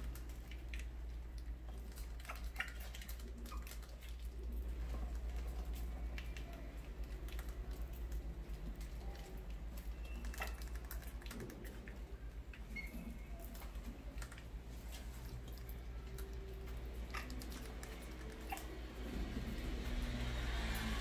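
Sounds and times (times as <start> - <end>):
mice claws scratching plastic: 0.0 - 21.0
mice chirping: 1.7 - 19.7.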